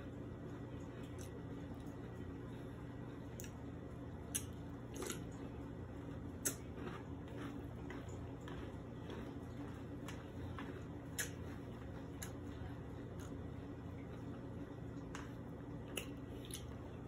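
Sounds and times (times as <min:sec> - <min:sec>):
soft chewing: 0:00.0 - 0:17.0
steady low hum: 0:00.0 - 0:17.0.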